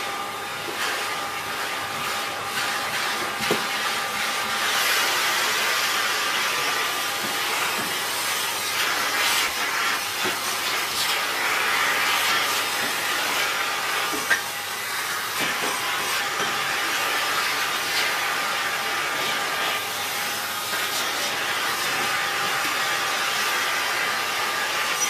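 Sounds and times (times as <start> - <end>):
vacuum cleaner sucking air: 0.0 - 25.0.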